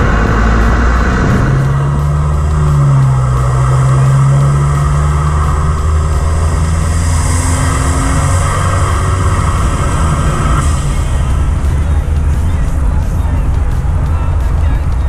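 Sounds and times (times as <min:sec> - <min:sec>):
car engine cruising: 0:00.0 - 0:15.0
wind noise: 0:00.0 - 0:15.0.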